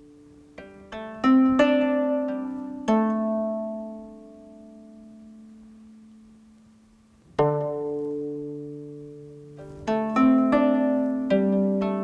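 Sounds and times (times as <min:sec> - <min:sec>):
plucked string music: 0:00.0 - 0:06.5, 0:07.1 - 0:12.0.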